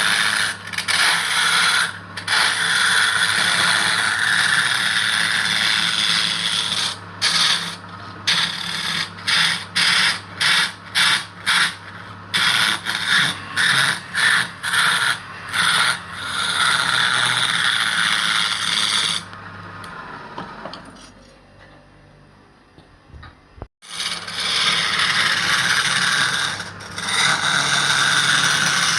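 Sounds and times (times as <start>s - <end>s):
turning tool cutting wood: 0.0s - 20.0s, 23.8s - 28.9s
wood lathe motor hum: 0.0s - 20.8s, 23.9s - 28.9s.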